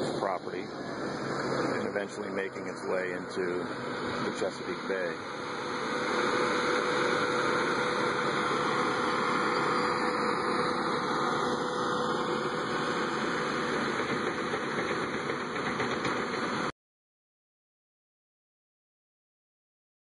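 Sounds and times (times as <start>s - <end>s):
diesel engine humming: 0.0s - 16.7s.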